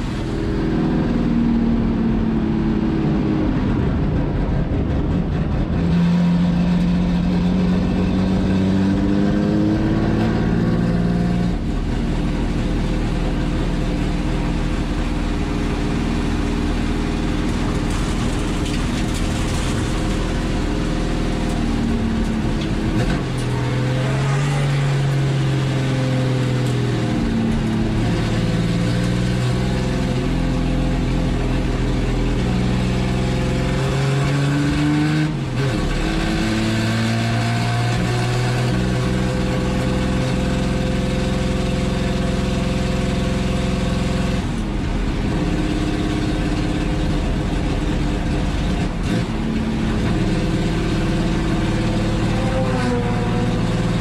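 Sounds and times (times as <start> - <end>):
racing engine accelerating: 0.0 - 54.0.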